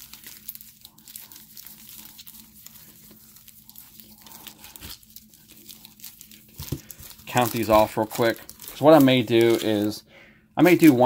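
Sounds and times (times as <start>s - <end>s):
foil wrappers crinkling: 0.0s - 10.0s, 10.6s - 11.0s.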